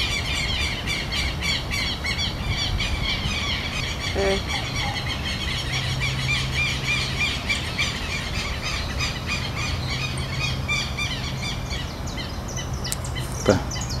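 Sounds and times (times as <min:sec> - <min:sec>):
birds calling in alarm: 0:00.0 - 0:14.0.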